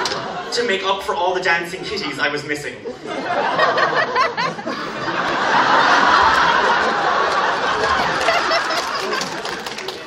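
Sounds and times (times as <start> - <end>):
audience laughing: 0.0 - 1.1, 1.8 - 10.0.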